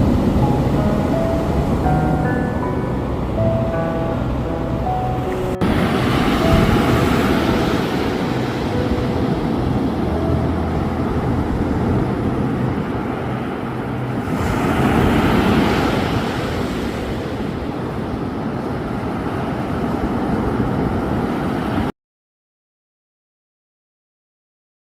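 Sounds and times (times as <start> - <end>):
wave breaking: 0.0 - 21.7
ocean surf washing: 0.0 - 21.9.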